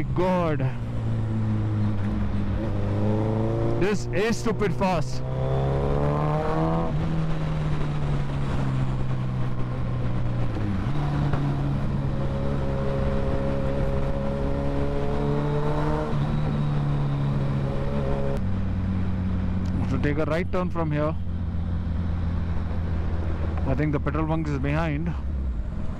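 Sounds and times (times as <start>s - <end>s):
motorcycle engine with loud exhaust: 0.0s - 25.9s.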